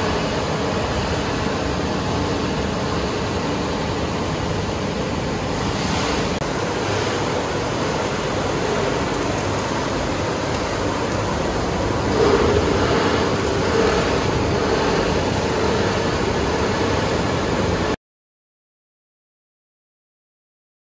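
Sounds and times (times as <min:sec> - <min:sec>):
machine running: 0:00.0 - 0:18.0.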